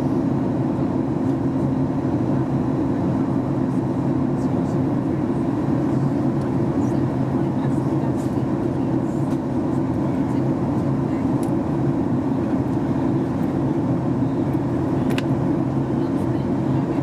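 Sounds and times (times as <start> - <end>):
airplane cabin drone in flight: 0.0 - 17.0.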